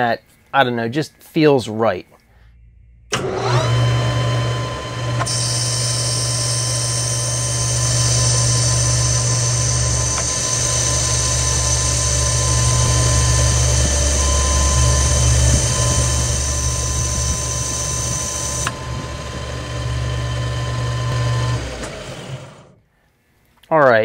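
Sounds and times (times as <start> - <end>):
metal lathe running: 3.1 - 22.7.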